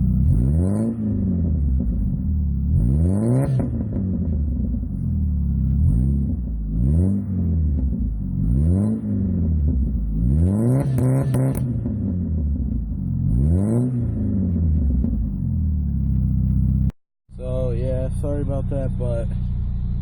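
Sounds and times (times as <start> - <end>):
pickup engine revving: 0.0 - 16.9.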